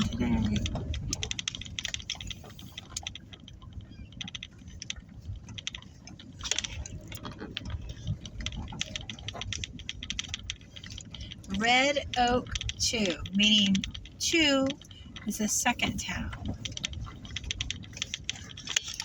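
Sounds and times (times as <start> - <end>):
car rolling slowly rumble: 0.0 - 19.0
clicking and crackling: 0.0 - 19.0.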